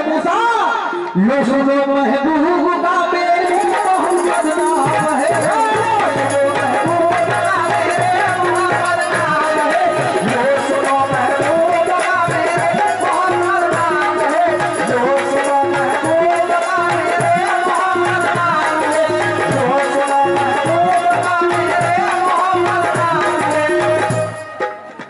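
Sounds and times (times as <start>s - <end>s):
man singing long notes: 0.0s - 24.7s
dholak drumming: 0.0s - 25.0s
harmonium melody: 0.0s - 25.0s.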